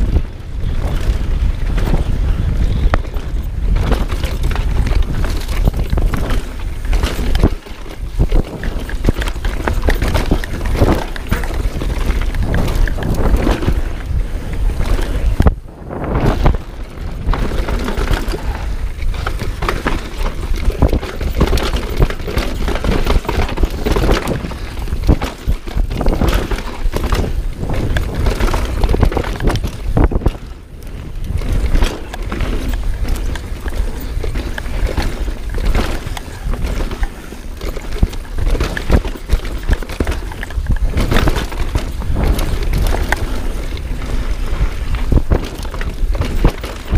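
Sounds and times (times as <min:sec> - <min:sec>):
tyres on loose gravel: 0:00.0 - 0:46.9
wind rushing over microphone: 0:00.0 - 0:46.9
bike parts clattering: 0:00.7 - 0:15.4, 0:16.2 - 0:46.9.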